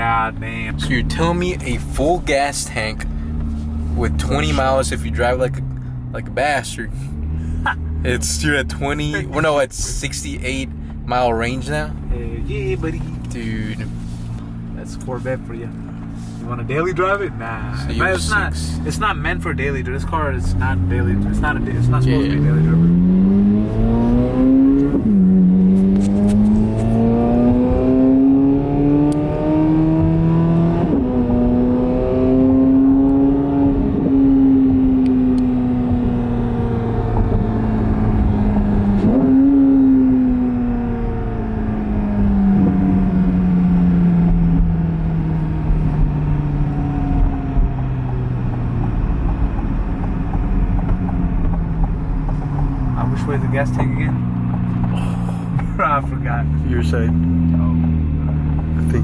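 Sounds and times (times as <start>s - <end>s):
sports car engine accelerating: 0.0s - 59.0s.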